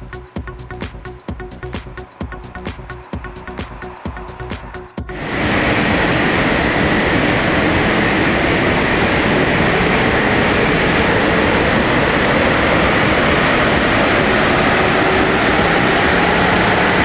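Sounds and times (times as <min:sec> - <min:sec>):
diesel engine under load: 0:00.0 - 0:17.0
loud steady rush of noise: 0:00.0 - 0:17.0.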